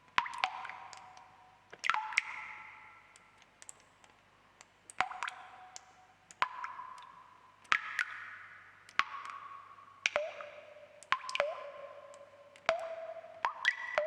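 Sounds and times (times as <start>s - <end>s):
water drops plinking into water: 0.0s - 14.0s.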